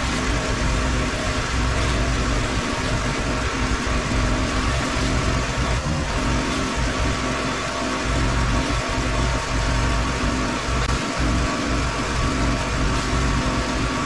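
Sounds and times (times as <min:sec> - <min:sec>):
high-pressure water jet hissing: 0:00.0 - 0:14.0
pressure washer engine running: 0:00.0 - 0:14.0.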